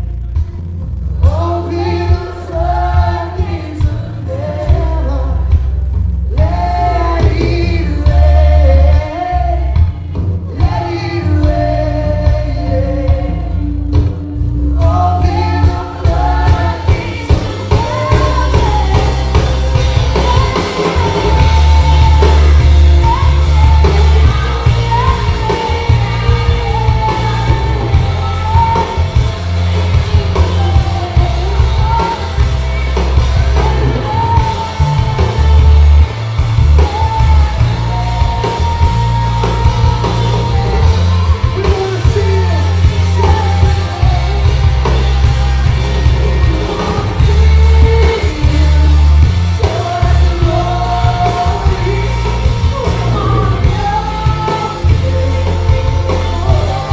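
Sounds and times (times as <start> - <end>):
band accompaniment: 0.0 - 56.9
heavy bass notes: 0.0 - 56.9
person singing lead: 6.3 - 56.9.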